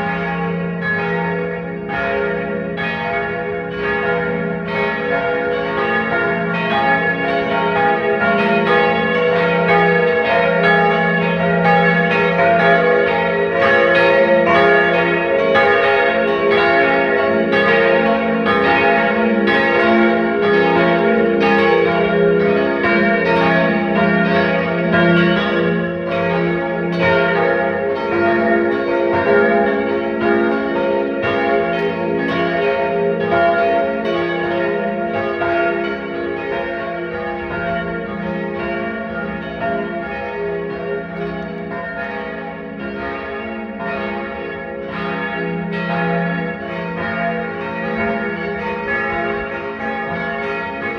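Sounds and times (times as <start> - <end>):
church bells pealing: 0.0 - 50.9.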